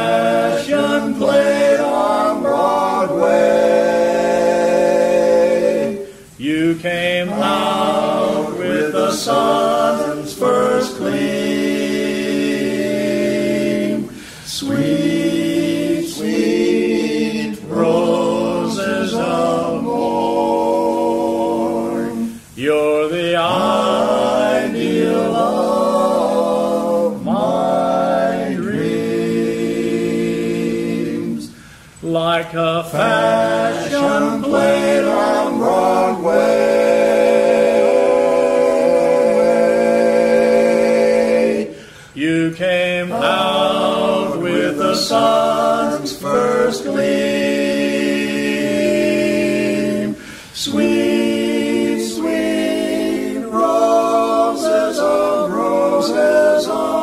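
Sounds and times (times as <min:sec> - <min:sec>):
male quartet singing a cappella: 0:00.0 - 0:57.0.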